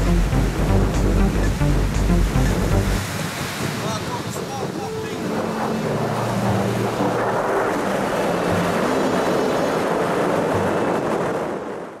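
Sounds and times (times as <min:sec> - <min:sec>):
surf washing on shore: 0:00.0 - 0:12.0
wind buffeting microphone: 0:00.5 - 0:12.0.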